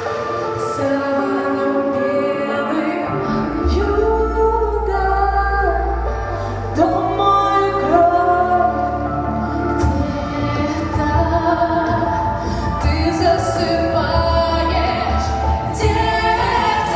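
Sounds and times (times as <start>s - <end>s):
synthesizer and bass backing: 0.0s - 16.9s.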